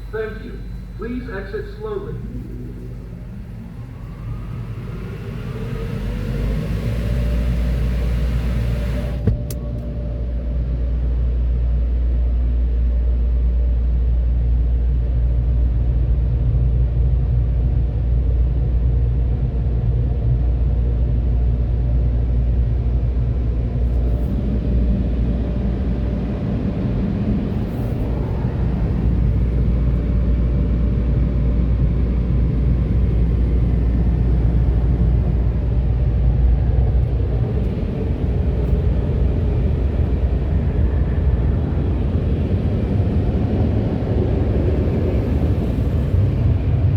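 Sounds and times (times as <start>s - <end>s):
vehicle rumble from inside car: 0.0s - 46.9s.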